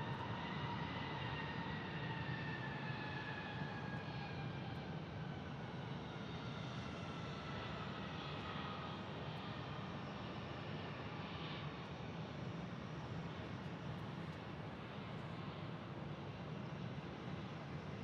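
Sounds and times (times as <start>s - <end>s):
jet engine whine: 0.0s - 18.0s.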